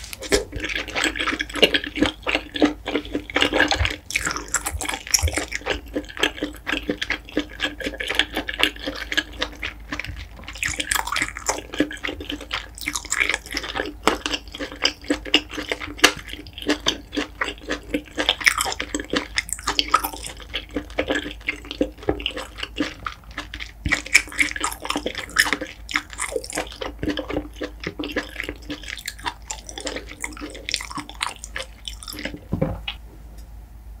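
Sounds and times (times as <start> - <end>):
wet chewing: 0.0 - 33.0.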